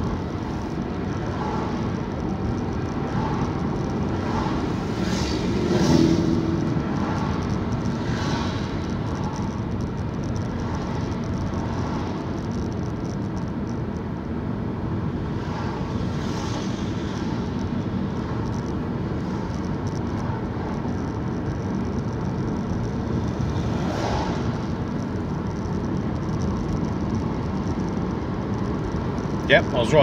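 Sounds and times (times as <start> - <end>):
car engine and tyre noise: 0.0 - 30.0.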